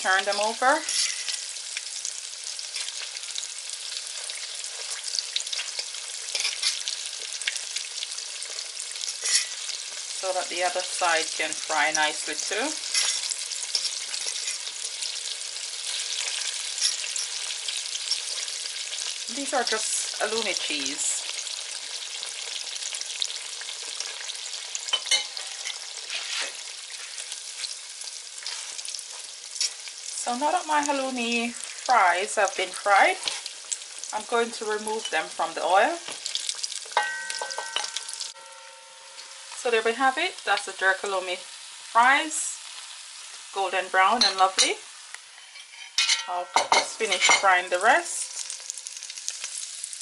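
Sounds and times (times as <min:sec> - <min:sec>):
food frying in hot oil: 0:00.0 - 0:50.0.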